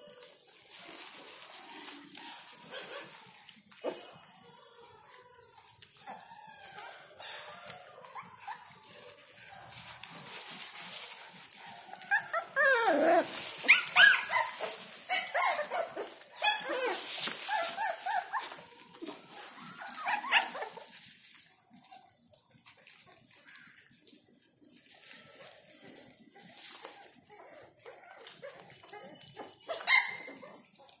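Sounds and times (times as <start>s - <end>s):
puppies whimpering and yelping: 0.0s - 22.0s, 22.6s - 31.0s.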